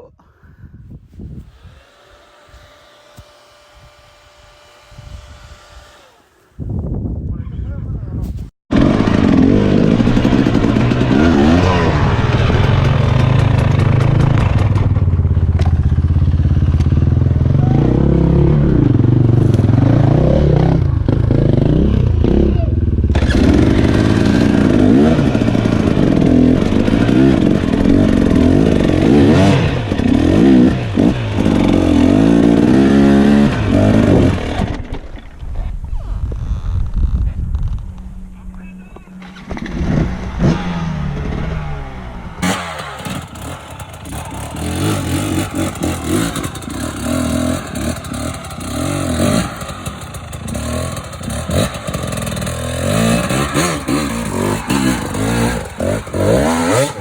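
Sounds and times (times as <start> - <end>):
dirt bike engine revving: 1.3 - 6.7, 8.7 - 35.2, 36.0 - 57.0.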